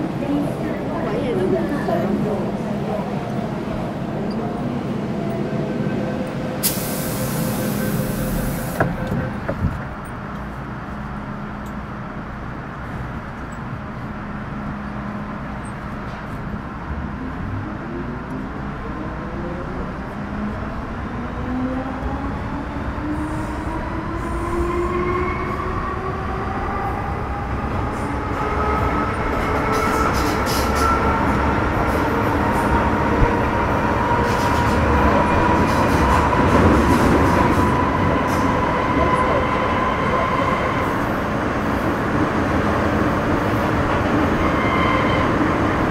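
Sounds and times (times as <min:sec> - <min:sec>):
train car rumble: 0:00.0 - 0:45.9.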